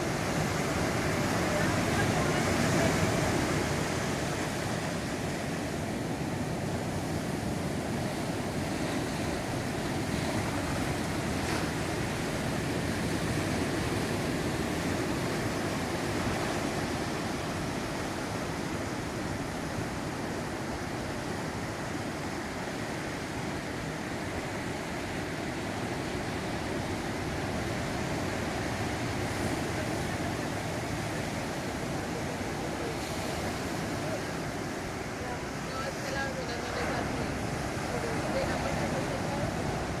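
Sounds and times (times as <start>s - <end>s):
waves breaking on beach: 0.0s - 40.0s.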